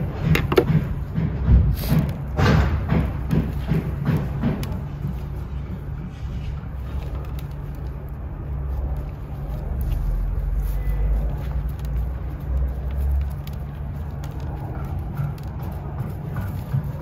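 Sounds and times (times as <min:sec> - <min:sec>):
chopstick scratching soil: 0:03.3 - 0:17.0.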